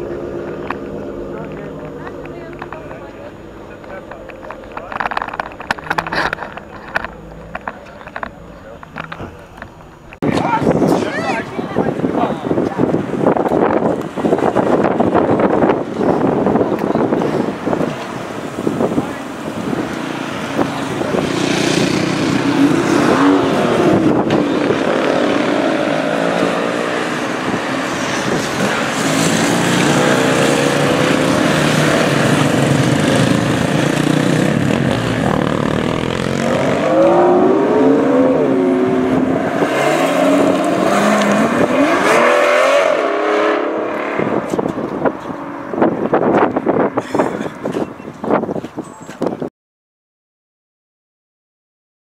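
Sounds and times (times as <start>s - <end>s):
car engine accelerating: 0.0s - 11.2s, 12.1s - 47.0s.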